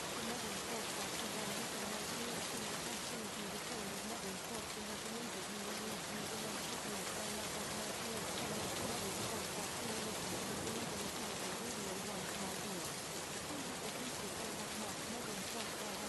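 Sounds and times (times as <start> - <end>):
steady rain-like hiss: 0.0 - 16.0.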